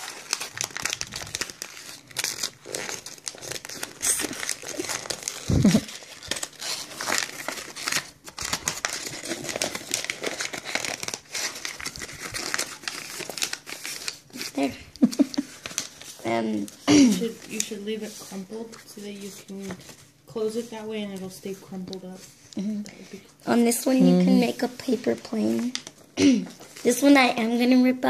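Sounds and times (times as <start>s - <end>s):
paper crumpling: 0.0s - 22.5s, 23.9s - 27.5s.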